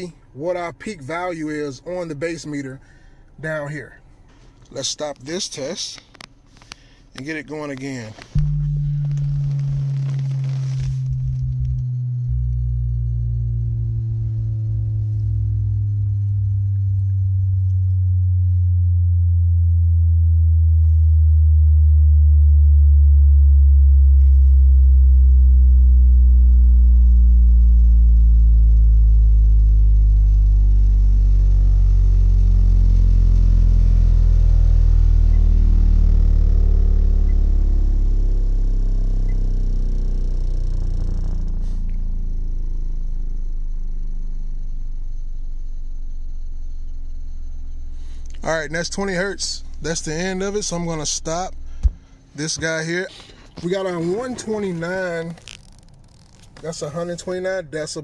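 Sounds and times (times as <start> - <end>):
falling bass sweep: 8.3 - 56.4.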